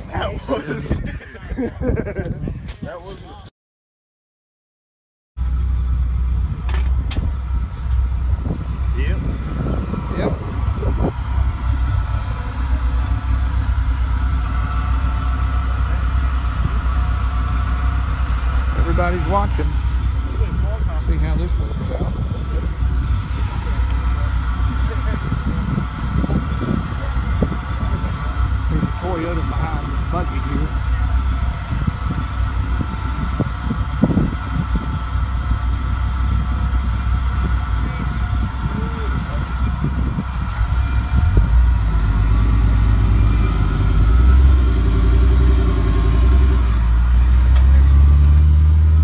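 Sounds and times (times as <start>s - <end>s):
engine idling low rumble: 5.4s - 49.0s.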